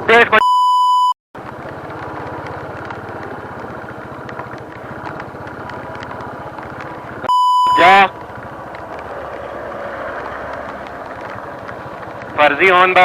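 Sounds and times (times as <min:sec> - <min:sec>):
motorcycle engine idling: 0:01.4 - 0:13.0.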